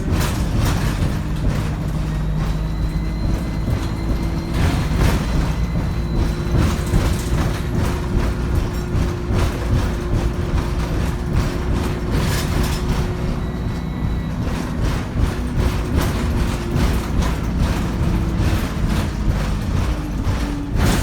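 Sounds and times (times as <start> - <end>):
body rattles and knocks: 0.0 - 21.0
bus engine drone: 0.0 - 21.0.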